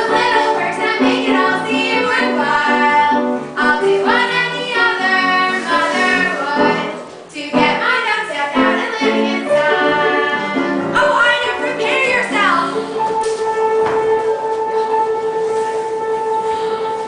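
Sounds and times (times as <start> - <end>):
children singing: 0.0 - 15.0.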